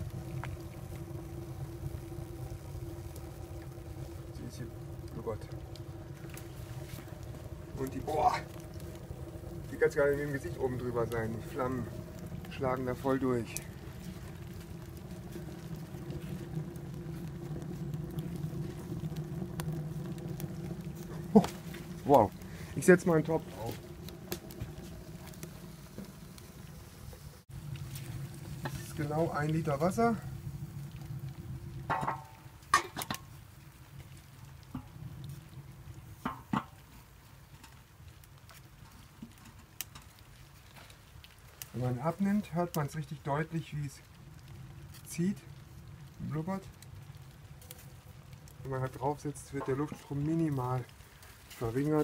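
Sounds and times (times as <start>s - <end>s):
stove rumbling and burbling: 0.0s - 52.0s
wood crackling: 0.0s - 52.0s.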